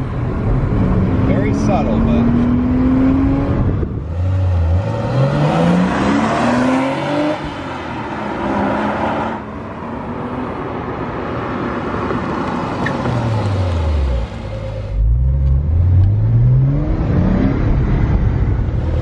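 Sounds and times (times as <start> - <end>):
road noise: 0.0 - 19.0
car engine accelerating hard: 0.2 - 9.4, 11.8 - 19.0.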